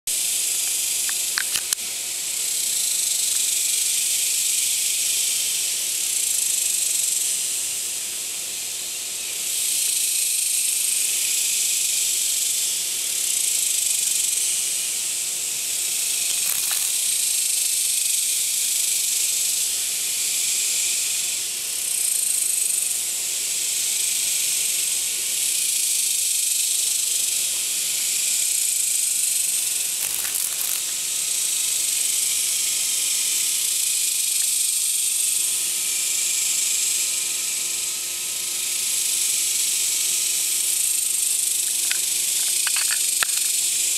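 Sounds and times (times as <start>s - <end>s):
cicadas buzzing: 0.1s - 43.9s.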